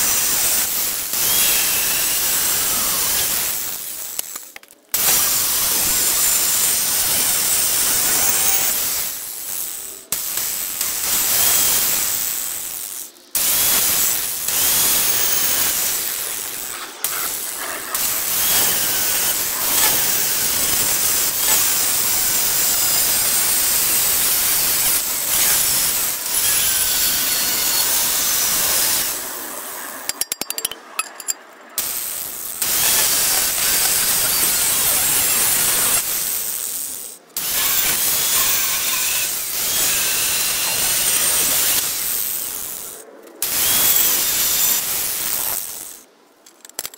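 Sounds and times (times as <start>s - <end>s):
angle grinder cutting steel: 0.0s - 46.0s.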